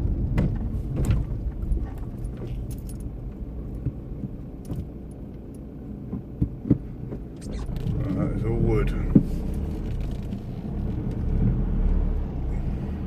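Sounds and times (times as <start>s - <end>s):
vehicle engine rumble: 0.0s - 13.0s
light clicks and rattles: 0.4s - 11.5s.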